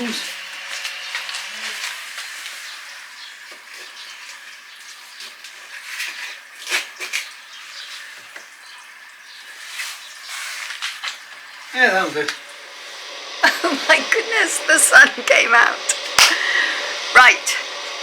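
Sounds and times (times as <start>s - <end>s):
water running into a tank: 0.0s - 18.0s.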